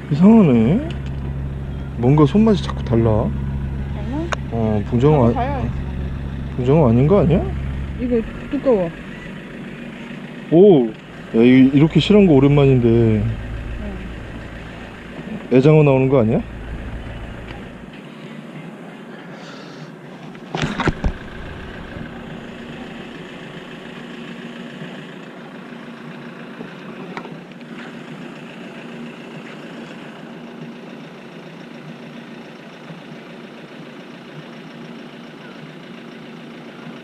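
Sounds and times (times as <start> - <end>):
steady engine-like hum: 0.0 - 37.0.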